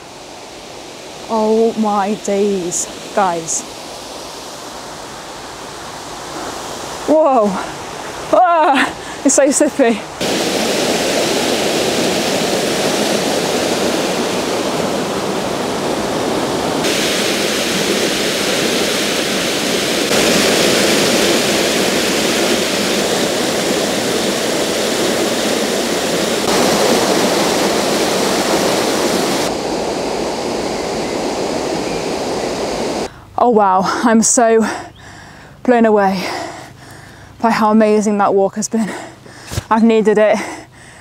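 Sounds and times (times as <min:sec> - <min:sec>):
waterfall rushing: 0:00.0 - 0:33.1.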